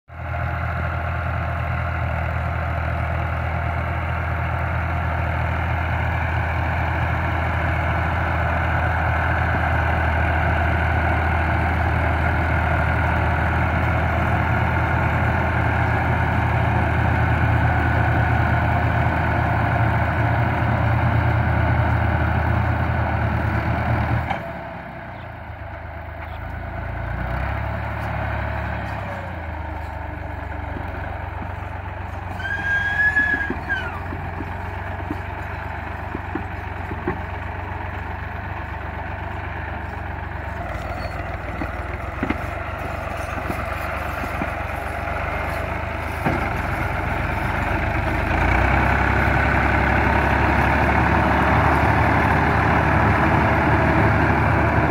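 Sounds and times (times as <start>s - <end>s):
tractor diesel engine running: 0.1s - 54.9s.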